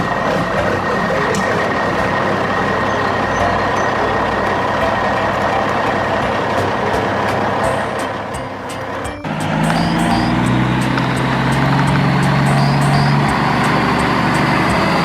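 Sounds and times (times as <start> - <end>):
mechanical running noise: 0.0 - 15.0.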